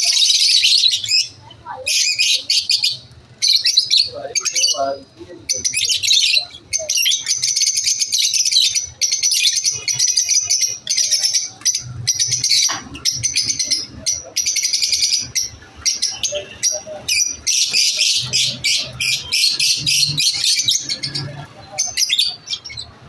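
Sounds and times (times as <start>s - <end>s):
lovebirds chirping: 0.0s - 23.0s.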